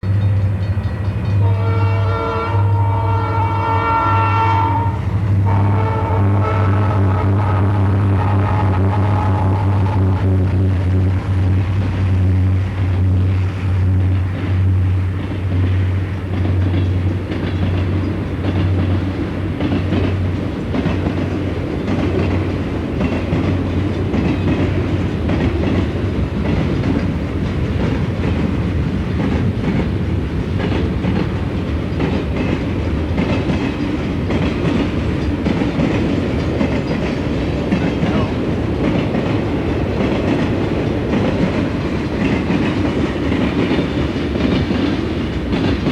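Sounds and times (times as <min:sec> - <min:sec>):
freight train wheels clacking: 0:00.0 - 0:45.9.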